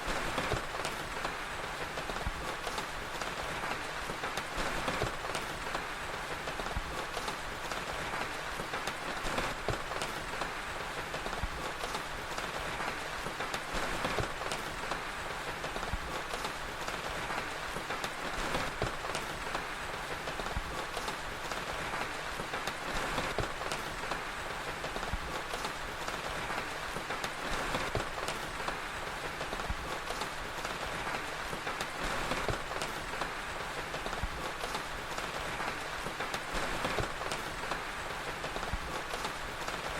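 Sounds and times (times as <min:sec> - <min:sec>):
fire crackling: 0:00.0 - 0:39.9
steady rain hiss: 0:00.0 - 0:39.9.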